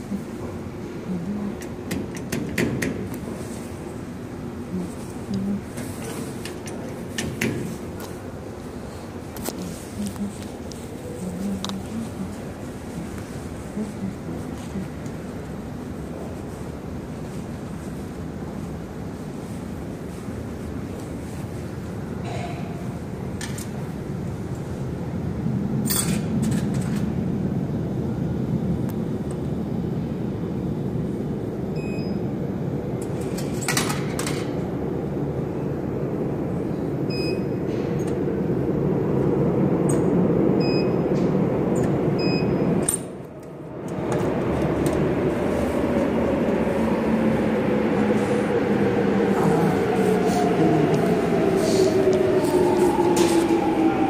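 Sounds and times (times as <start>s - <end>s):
subway station rumble: 0.0s - 54.0s
train approaching: 0.0s - 54.0s.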